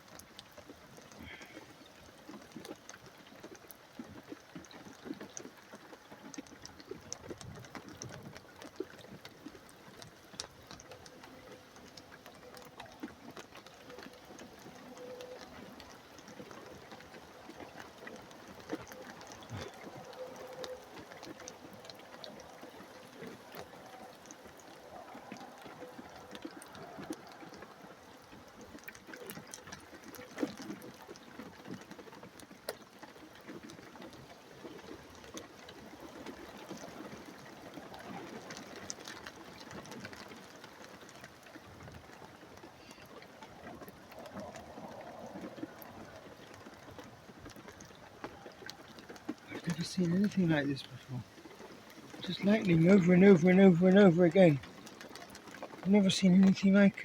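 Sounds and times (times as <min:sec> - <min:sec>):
rainwater dripping and trickling: 0:00.0 - 0:57.0
small ticks: 0:00.0 - 0:57.0.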